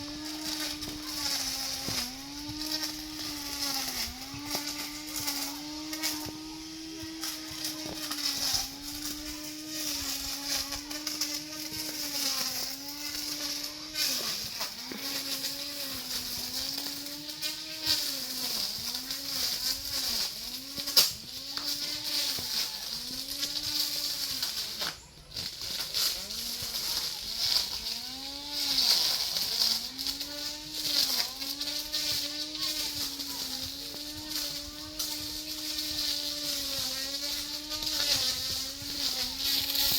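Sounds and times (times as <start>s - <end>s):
brush cutter engine at high revs: 0.0s - 39.9s.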